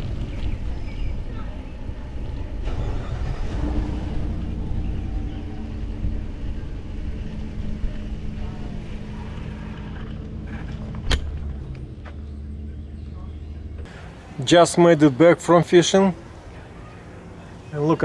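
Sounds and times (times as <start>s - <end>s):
vehicle rumbling slowly: 0.0s - 18.0s.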